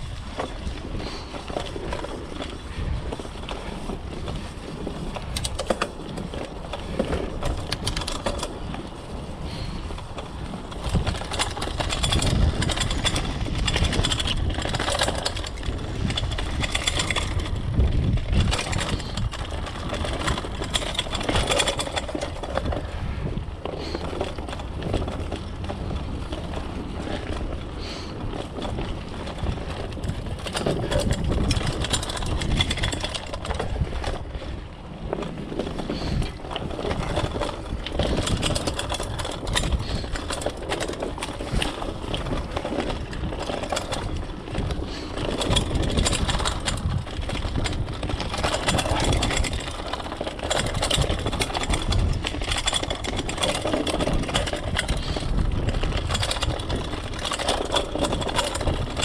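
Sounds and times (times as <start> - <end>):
bike rattling and clicking: 0.0 - 59.0
tyres on dirt and leaves: 0.0 - 59.0.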